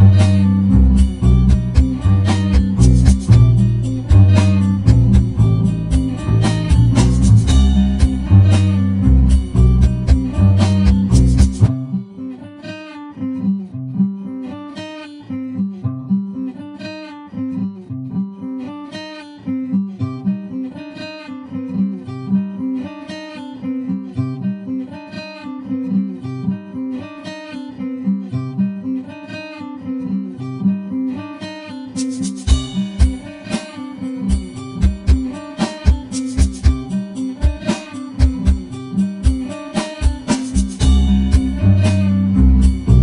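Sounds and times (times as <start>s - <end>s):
guitar picking a pattern: 0.0s - 43.0s.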